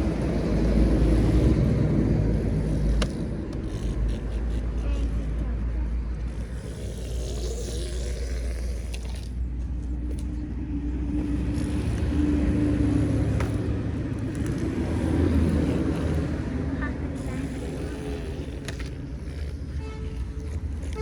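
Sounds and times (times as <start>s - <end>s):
small motor running: 0.0s - 21.0s.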